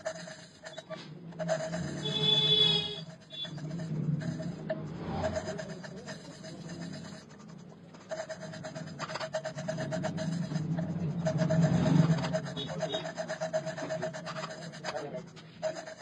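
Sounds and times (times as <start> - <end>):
tool scraping metal ticking: 0.0 - 16.0.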